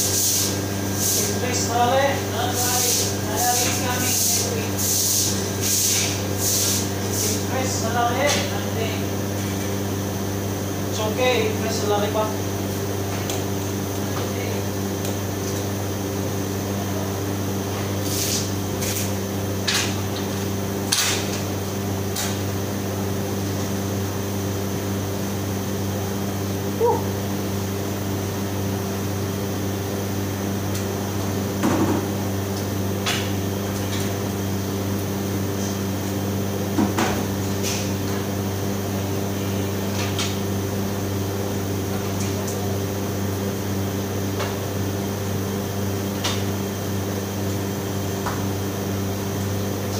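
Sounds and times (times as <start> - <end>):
refrigerator and extractor hum: 0.0 - 49.9.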